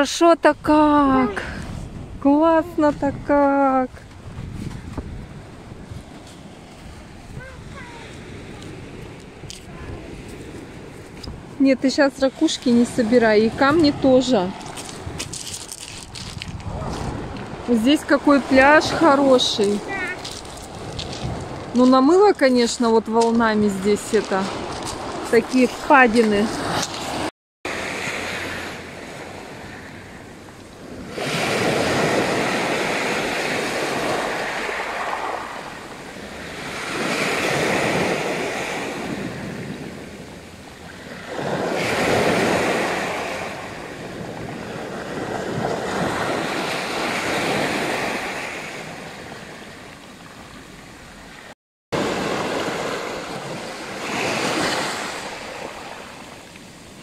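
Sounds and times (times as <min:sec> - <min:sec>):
waves breaking on pebble shore: 0:04.0 - 0:30.1, 0:30.8 - 0:50.7, 0:52.0 - 0:57.0.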